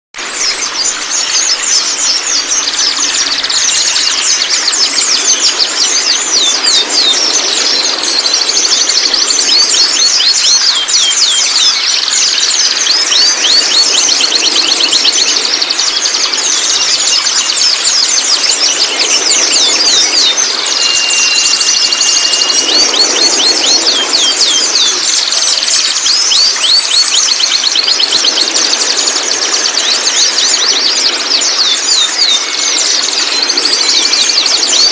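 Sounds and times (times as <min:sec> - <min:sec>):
bird chattering and twittering: 0:00.2 - 0:34.9.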